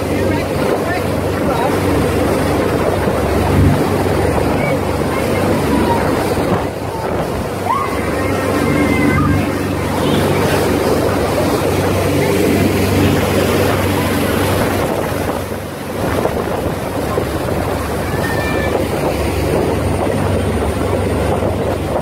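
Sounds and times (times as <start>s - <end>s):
boat engine running: 0.0s - 22.0s
churning wake rushing: 0.0s - 22.0s
wind on microphone: 0.0s - 22.0s.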